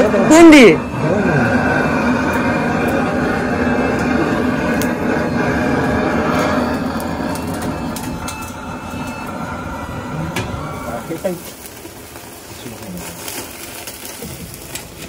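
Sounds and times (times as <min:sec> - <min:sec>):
gas torch flame rushing: 0:00.0 - 0:15.0.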